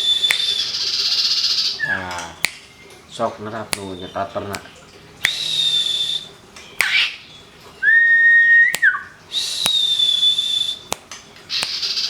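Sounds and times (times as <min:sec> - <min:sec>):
songbirds whistling held notes: 0:00.0 - 0:02.9, 0:05.2 - 0:12.0.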